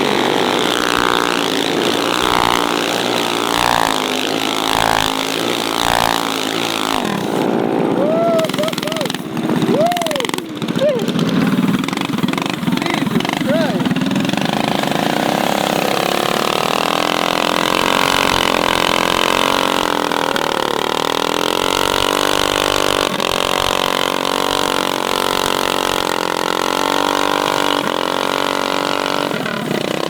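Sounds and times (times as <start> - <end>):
mini bike engine running: 0.0 - 30.0.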